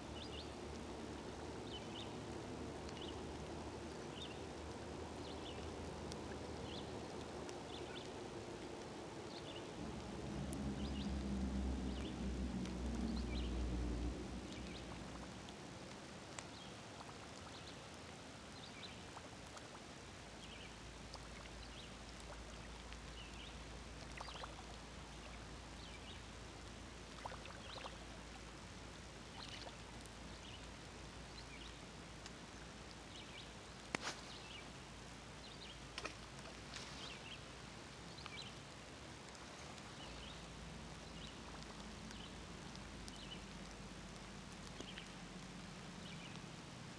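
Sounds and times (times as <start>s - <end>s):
creek water running: 0.0s - 46.9s
faint high chirps and ticks: 0.0s - 46.9s.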